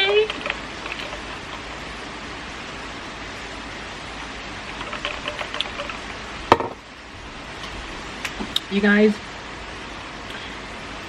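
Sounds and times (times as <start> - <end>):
heavy rain hiss: 0.0 - 11.0.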